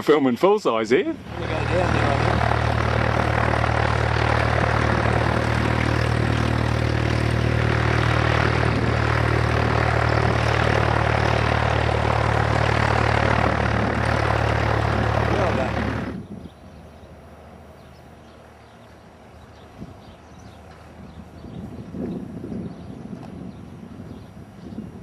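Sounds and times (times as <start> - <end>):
light aircraft engine droning: 0.6 - 25.0.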